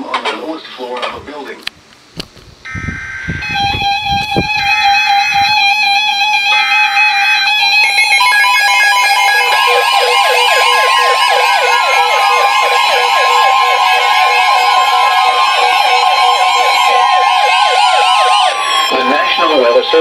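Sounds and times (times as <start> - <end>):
alarm tones: 2.6 - 20.0
buzzing data bursts: 2.6 - 20.0
steady tone: 2.6 - 20.0
warbling siren-like alarm: 2.6 - 20.0.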